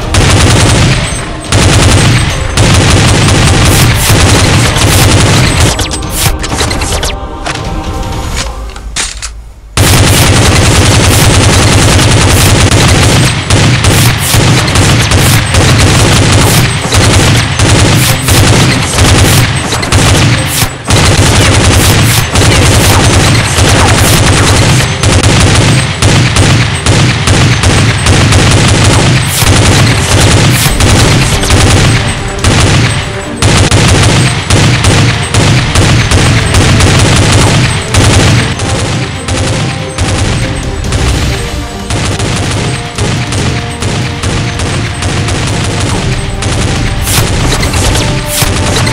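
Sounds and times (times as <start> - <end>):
rapid machine-gun fire: 0.0 - 6.4, 9.8 - 48.9.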